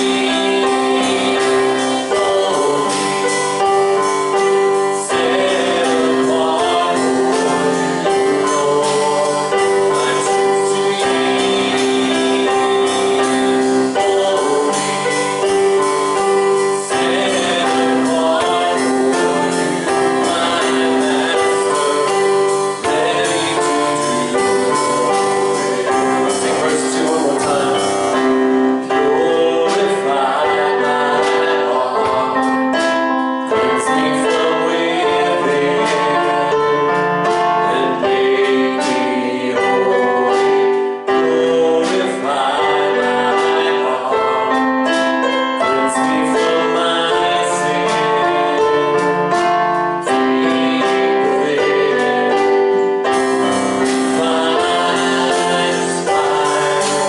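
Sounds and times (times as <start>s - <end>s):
voices singing: 0.0s - 57.0s.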